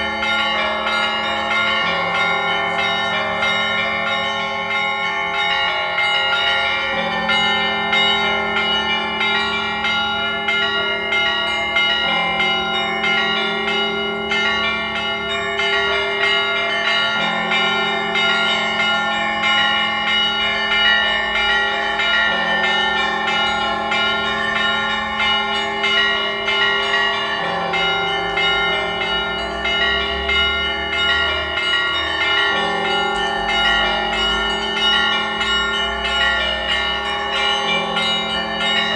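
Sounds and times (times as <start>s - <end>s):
small bells chiming rapidly: 0.0s - 38.9s.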